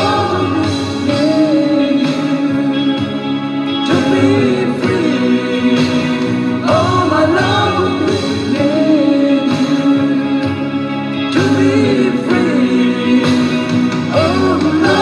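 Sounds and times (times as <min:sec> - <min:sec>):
band accompaniment: 0:00.0 - 0:15.0
man singing pop ballad: 0:00.0 - 0:15.0.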